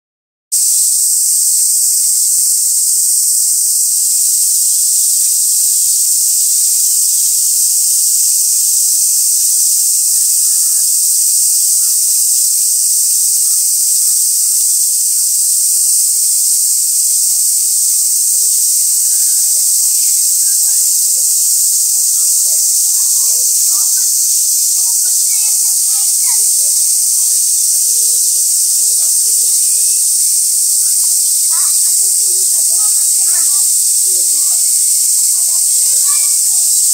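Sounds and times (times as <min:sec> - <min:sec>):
cicada chorus: 0:00.5 - 0:36.9
faint voices: 0:00.6 - 0:36.9.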